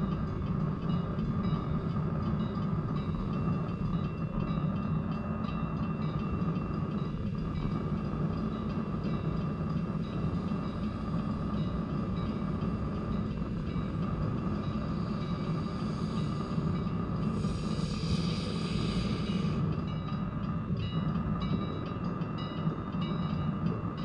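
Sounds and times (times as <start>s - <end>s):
steam locomotive rumbling: 0.0s - 24.0s.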